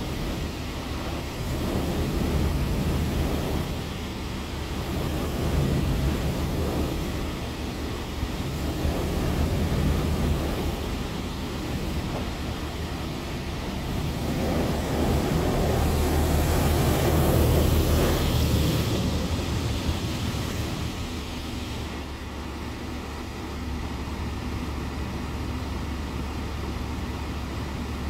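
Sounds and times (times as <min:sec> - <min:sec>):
low machine hum: 0:00.0 - 0:28.0
spraying water rush: 0:00.0 - 0:28.0.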